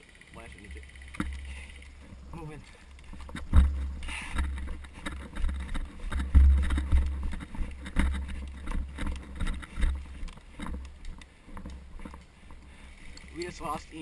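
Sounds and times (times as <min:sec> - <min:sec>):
rustling: 0:01.0 - 0:14.0
wind buffeting camera microphone: 0:01.1 - 0:14.0.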